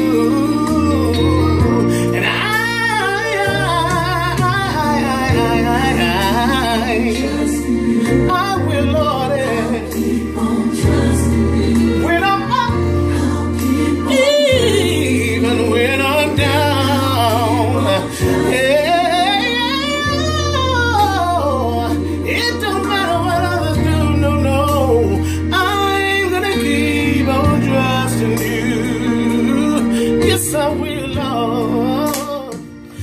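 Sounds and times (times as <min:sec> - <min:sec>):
low accompaniment chords: 0:00.0 - 0:33.0
man singing gospel: 0:00.0 - 0:33.0.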